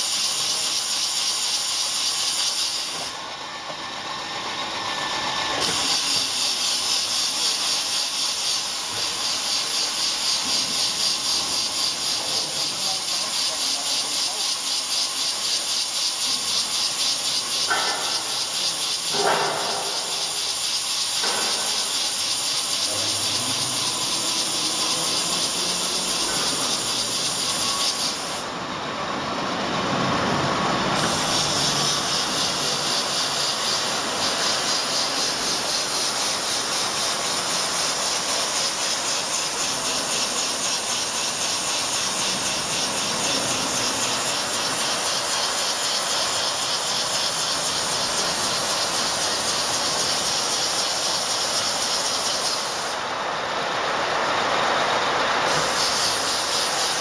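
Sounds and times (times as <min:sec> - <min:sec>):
drilling machine hissing: 0:00.0 - 0:57.0.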